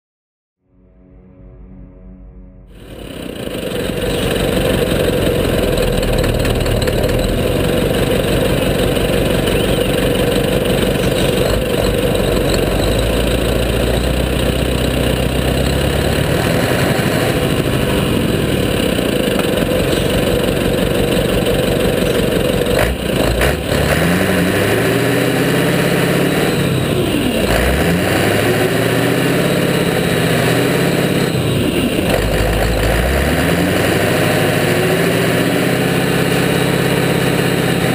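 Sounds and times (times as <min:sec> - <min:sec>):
diesel truck engine idling and revving: 0:02.7 - 0:37.9.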